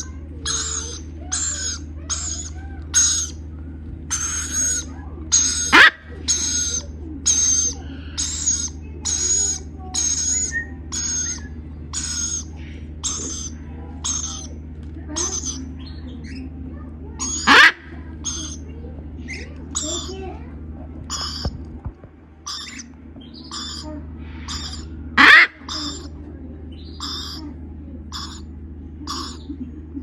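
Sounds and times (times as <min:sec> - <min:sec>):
chicks raspy begging calls: 0:00.0 - 0:21.7, 0:22.4 - 0:30.0.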